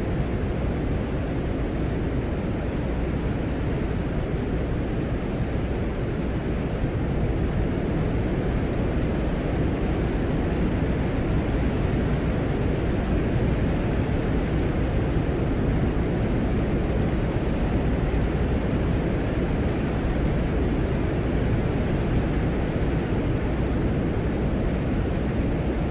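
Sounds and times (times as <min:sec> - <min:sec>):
low rushing wind: 0:00.0 - 0:25.9.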